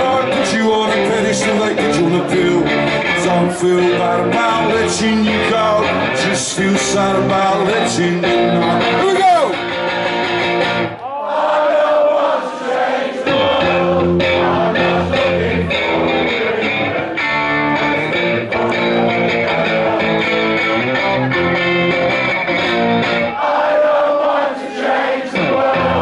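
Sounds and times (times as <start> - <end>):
bass guitar: 0.0 - 11.0, 13.3 - 23.4, 25.4 - 26.0
strummed electric guitar: 0.0 - 11.0, 13.3 - 23.4, 25.4 - 26.0.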